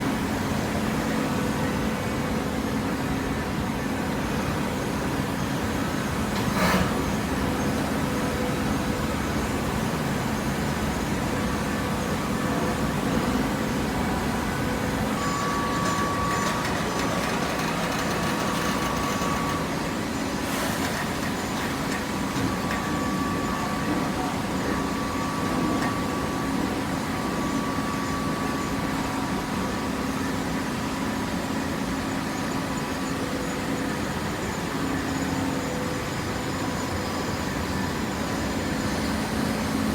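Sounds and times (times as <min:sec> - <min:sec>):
high machine whine: 0:00.0 - 0:39.9
baler machine hum: 0:05.5 - 0:39.9.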